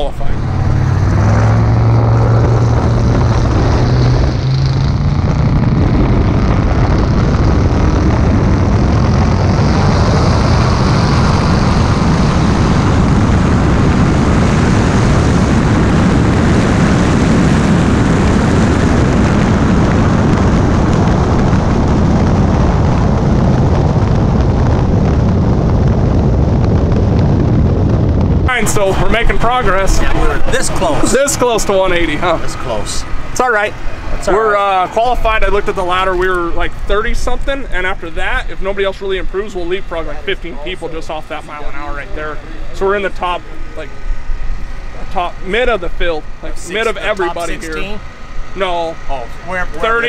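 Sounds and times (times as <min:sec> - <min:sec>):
car engine at full throttle: 0:00.0 - 0:50.0.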